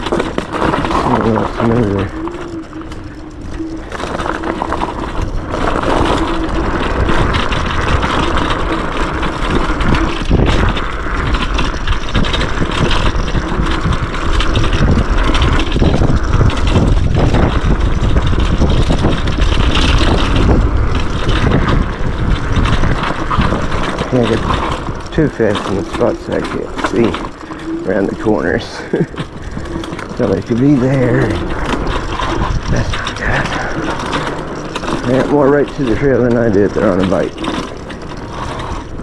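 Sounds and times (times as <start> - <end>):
knocks and rattles from bumps: 0.0 - 39.0
low rumble: 0.0 - 39.0
tyres rolling on dirt: 0.0 - 39.0
wind rushing on microphone: 0.0 - 39.0.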